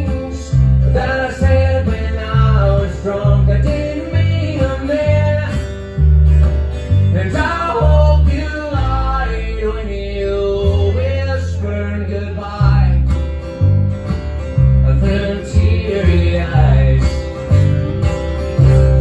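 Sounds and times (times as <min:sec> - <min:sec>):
strummed acoustic guitar: 0:00.0 - 0:19.0
upright bass plucking: 0:00.0 - 0:19.0.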